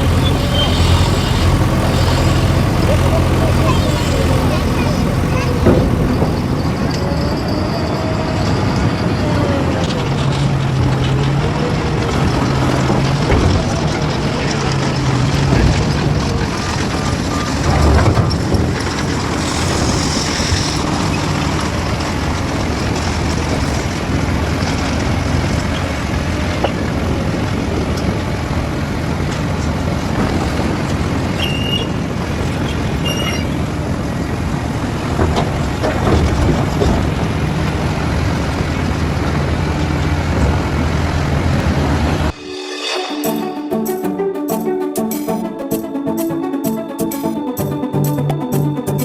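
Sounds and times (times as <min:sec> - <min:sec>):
heavy machine engine running: 0:00.0 - 0:49.0.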